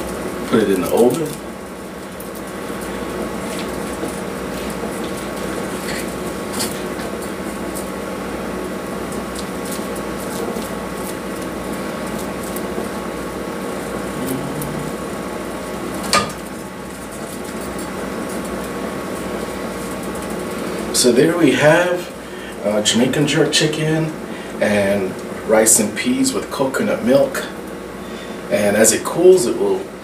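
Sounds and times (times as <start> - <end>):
steady whirring hum: 0.0 - 30.0.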